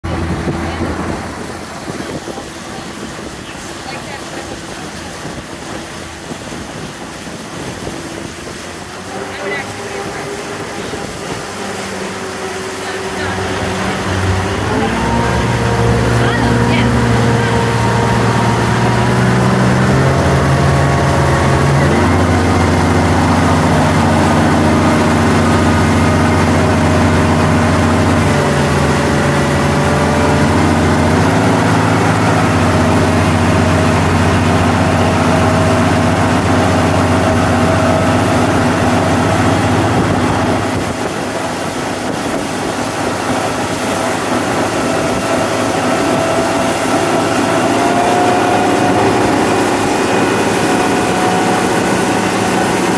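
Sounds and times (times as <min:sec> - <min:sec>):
motorboat engine running: 0:00.0 - 0:52.9
wind and water rushing: 0:00.0 - 0:52.9.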